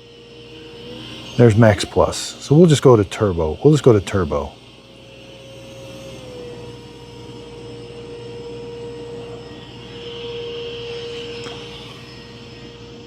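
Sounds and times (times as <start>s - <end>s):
robot vacuum whining hum: 0.0s - 13.0s.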